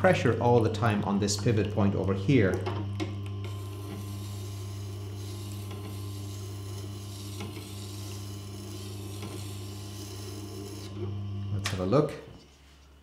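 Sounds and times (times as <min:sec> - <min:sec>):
low motor hum: 0:00.0 - 0:11.9.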